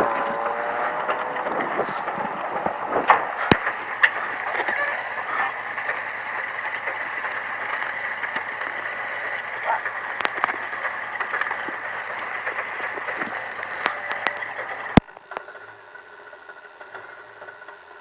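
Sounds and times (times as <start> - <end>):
sharp clicks: 0.0 - 15.6
truck engine idling: 0.0 - 18.0.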